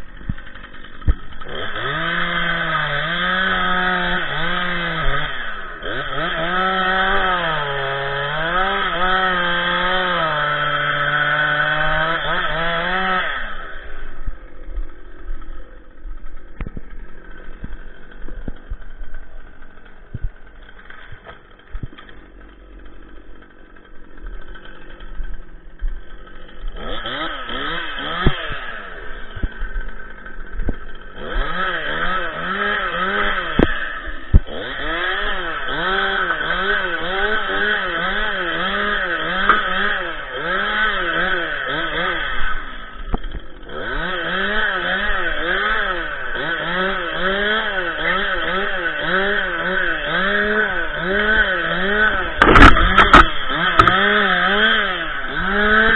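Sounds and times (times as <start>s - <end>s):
chainsaw running at high revs: 0.0s - 55.9s.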